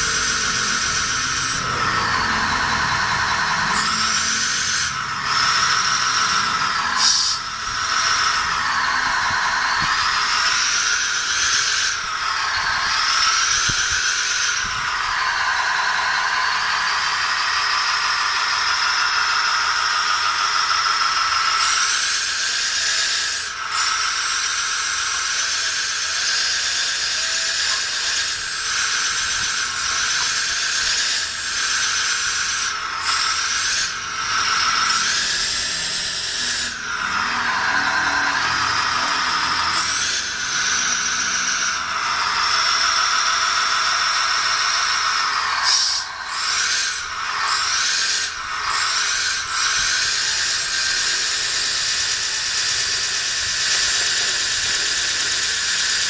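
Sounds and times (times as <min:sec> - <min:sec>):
small electric motors whining: 0:00.0 - 0:56.0
steady high-pitched whine: 0:00.0 - 0:56.0.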